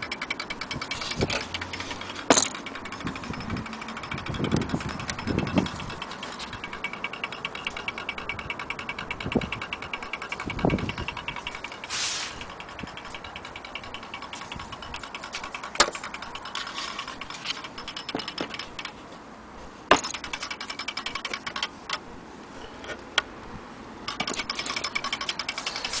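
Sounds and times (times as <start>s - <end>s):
clock movement clicking: 0.0s - 19.2s, 19.8s - 23.3s, 24.0s - 26.0s.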